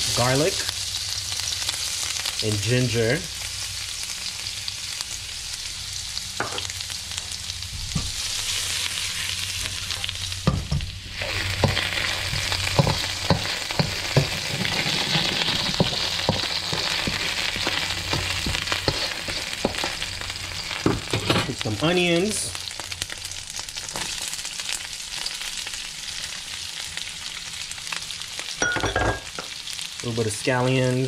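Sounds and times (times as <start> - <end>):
stir-fry sizzling in a wok: 0.0 - 31.0.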